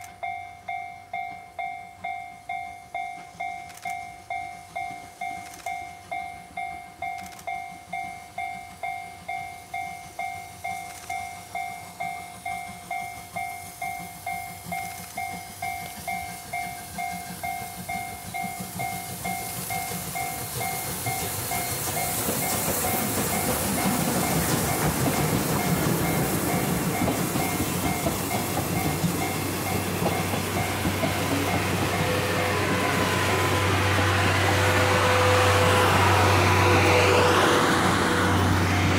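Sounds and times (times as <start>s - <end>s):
level crossing warning bell: 0.0s - 38.9s
steam locomotive passing: 0.0s - 38.9s
wheels clattering on rails: 0.0s - 38.9s.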